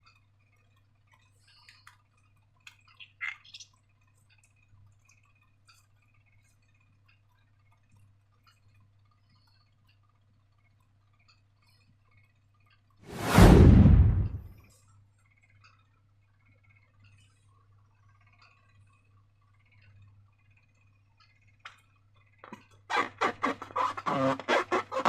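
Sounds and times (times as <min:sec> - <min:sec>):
faint small clicks and taps: 0:00.0 - 0:13.0, 0:14.7 - 0:22.9.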